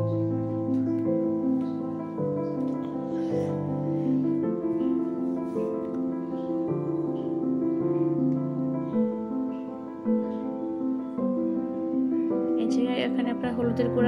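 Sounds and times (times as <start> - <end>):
soft piano tune: 0.0 - 14.0.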